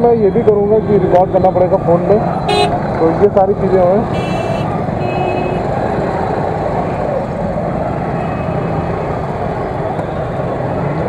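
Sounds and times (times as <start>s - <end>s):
motorcycles idling in traffic: 0.0s - 11.0s.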